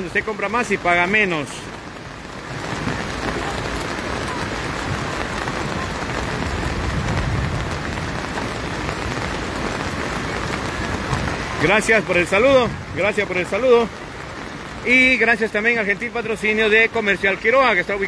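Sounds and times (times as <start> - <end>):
rain on road and plastic tarps: 0.0 - 18.0.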